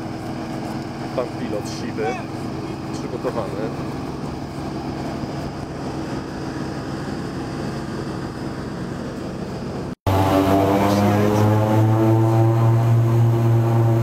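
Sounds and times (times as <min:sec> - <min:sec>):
steady mechanical hum: 0:00.0 - 0:14.0
turboprop engines droning: 0:00.0 - 0:14.0.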